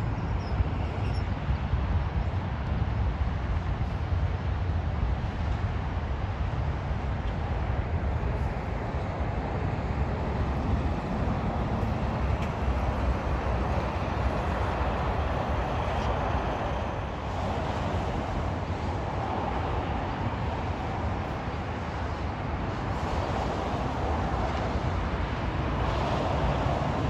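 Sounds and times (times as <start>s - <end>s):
road traffic rumble: 0.0s - 27.0s
wind on microphone: 0.0s - 27.0s.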